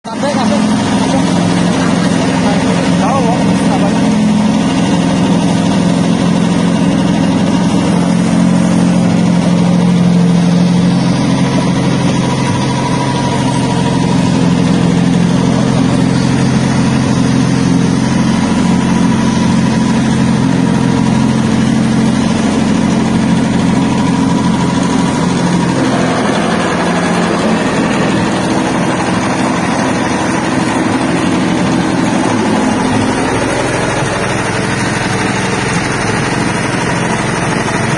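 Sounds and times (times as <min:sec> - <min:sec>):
machine motor humming: 0:00.2 - 0:37.9.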